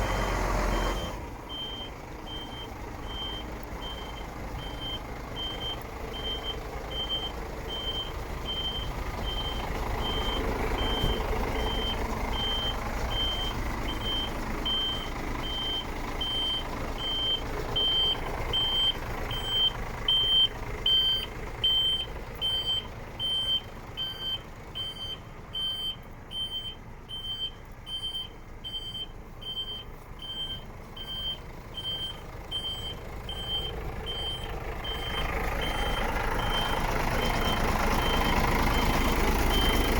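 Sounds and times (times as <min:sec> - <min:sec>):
truck engine running: 0:00.0 - 0:39.9
truck reversing alarm beeping: 0:00.0 - 0:39.9.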